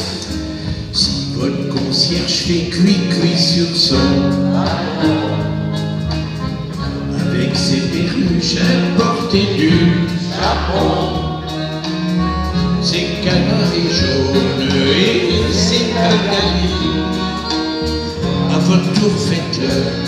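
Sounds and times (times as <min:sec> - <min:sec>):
person singing: 0:00.0 - 0:05.8, 0:07.1 - 0:20.0
live band with guitar and drums: 0:00.0 - 0:20.0.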